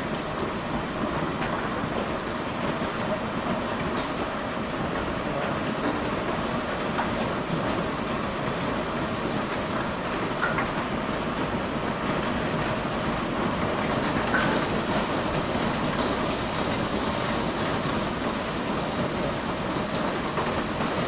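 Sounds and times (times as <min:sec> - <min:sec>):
hail and heavy rain falling: 0:00.0 - 0:21.0.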